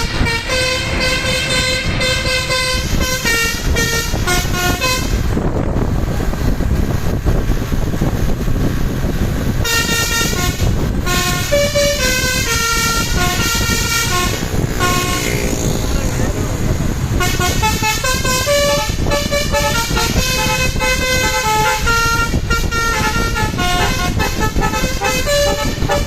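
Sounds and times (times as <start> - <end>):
bus musical horn melody: 0.0 - 5.4, 9.5 - 16.1, 17.1 - 26.0
engine and road rumble: 0.0 - 26.0.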